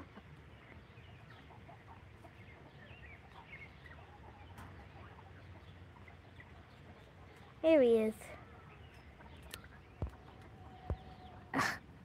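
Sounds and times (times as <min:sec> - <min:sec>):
distant chickens clucking: 0:00.0 - 0:12.0.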